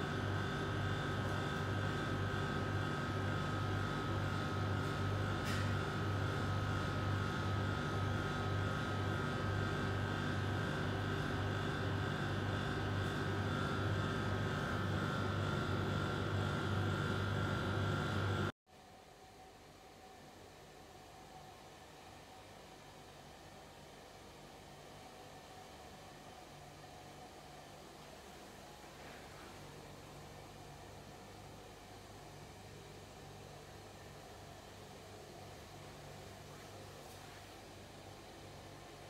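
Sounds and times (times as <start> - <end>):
mechanical hum with high whine: 0.0 - 39.0.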